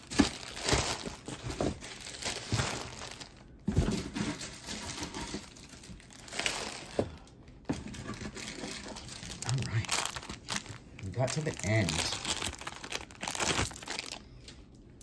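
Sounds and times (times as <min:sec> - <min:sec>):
packaging crinkling: 0:00.0 - 0:14.7.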